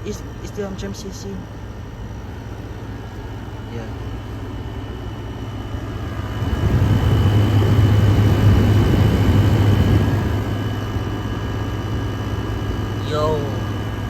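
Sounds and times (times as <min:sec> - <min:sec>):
air conditioner humming: 0:00.0 - 0:14.0
faint high whine: 0:00.0 - 0:14.0.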